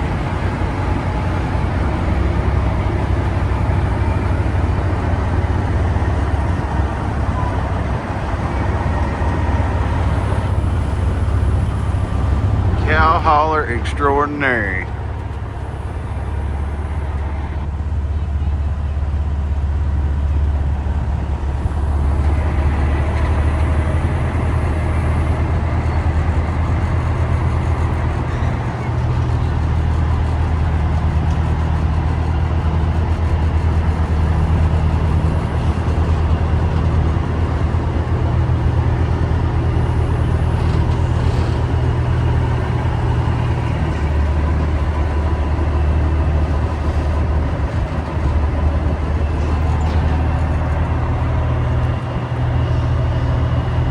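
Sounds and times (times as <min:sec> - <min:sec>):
truck engine droning: 0:00.0 - 0:53.9.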